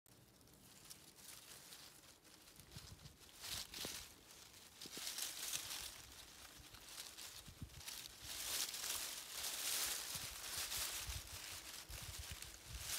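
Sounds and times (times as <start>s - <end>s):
dry leaves rustling and crackling: 0.1s - 12.9s.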